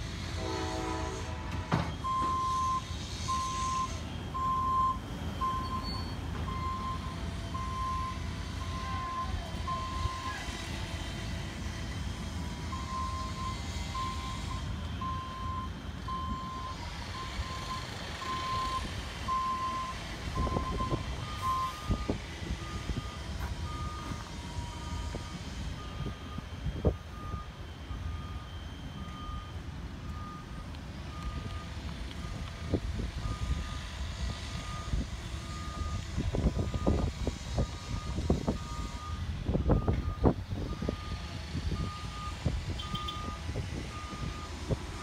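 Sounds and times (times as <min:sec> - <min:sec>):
train rumbling: 0:00.0 - 0:45.0
reversing alarm beeping: 0:00.5 - 0:11.6, 0:12.2 - 0:45.0.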